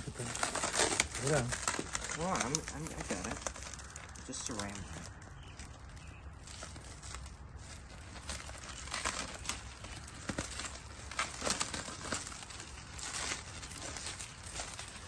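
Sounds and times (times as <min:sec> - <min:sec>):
plastic wrap crinkling and tearing: 0:00.0 - 0:15.0.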